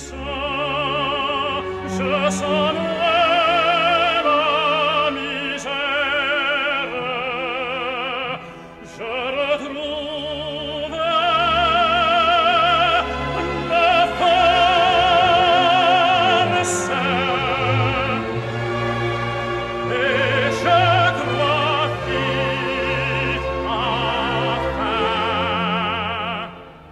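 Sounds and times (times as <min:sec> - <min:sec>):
tenor singing operatically: 0:00.0 - 0:26.8
orchestra playing: 0:00.0 - 0:26.9.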